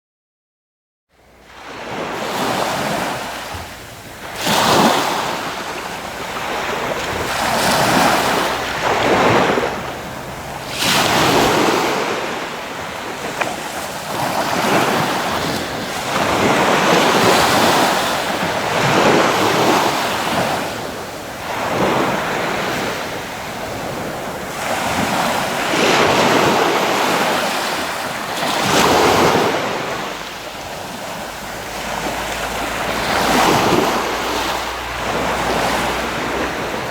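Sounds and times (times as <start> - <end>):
sea waves breaking: 1.2 - 36.9.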